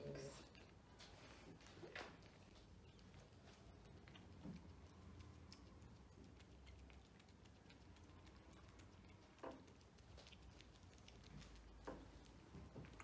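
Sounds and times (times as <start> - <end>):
cats chewing and licking: 0.0 - 13.0.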